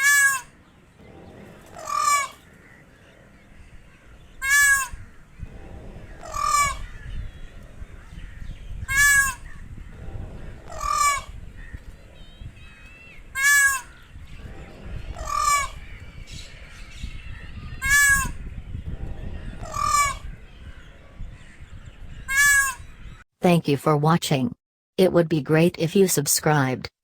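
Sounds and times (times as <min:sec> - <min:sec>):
peacock calling: 0:00.0 - 0:23.2
steady low rumble: 0:00.9 - 0:23.2.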